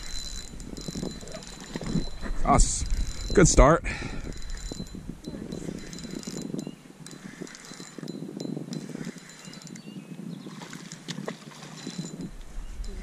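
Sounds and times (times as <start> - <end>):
fishing reel whirring: 0.0 - 13.0.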